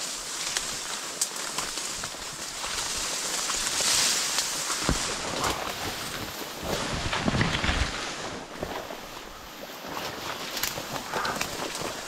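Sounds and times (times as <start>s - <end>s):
footsteps: 0.0s - 12.0s
rustling reeds: 0.0s - 12.0s.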